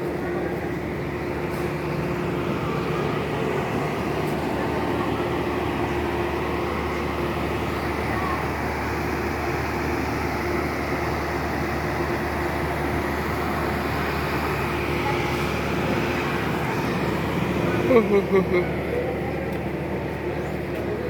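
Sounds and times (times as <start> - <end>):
constant hum: 0.0 - 21.0
train rumbling from inside carriage: 0.0 - 21.0.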